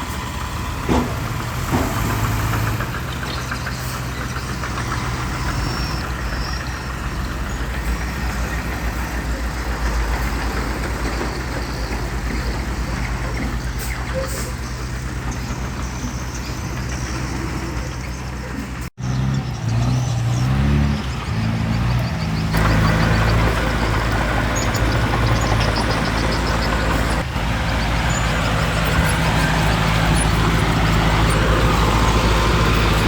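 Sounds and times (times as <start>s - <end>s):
heavy diesel engines running: 0.0s - 33.0s.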